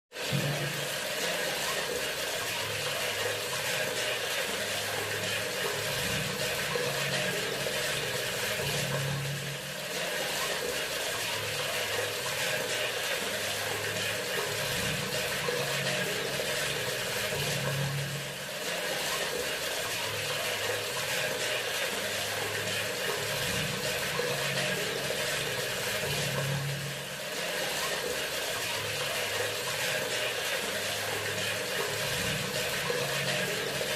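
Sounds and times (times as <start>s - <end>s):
faucet water pouring into sink: 0.2s - 33.9s.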